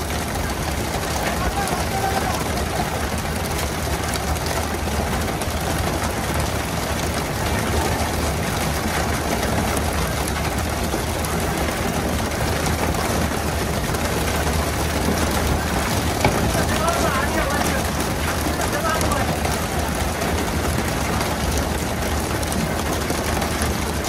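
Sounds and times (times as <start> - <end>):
boat engine droning: 0.0 - 24.0
water rushing: 0.0 - 24.0.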